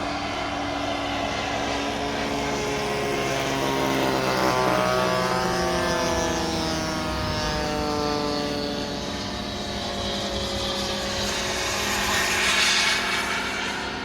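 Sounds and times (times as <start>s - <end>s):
model jet turbine whining: 0.0s - 14.0s.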